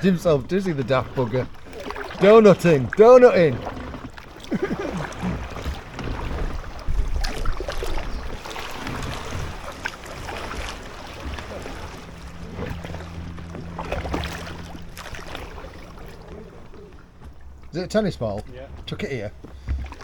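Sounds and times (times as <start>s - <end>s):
kayak paddle splashing in water: 0.0s - 20.0s
wind buffeting microphone: 0.0s - 20.0s.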